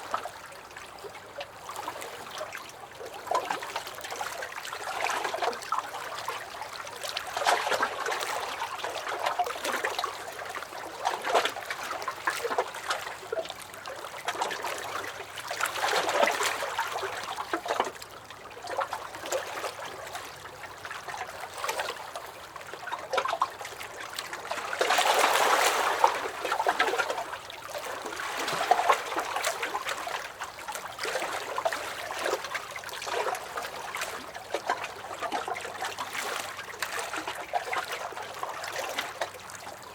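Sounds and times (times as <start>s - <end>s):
waves lapping against a dock: 0.0s - 39.9s.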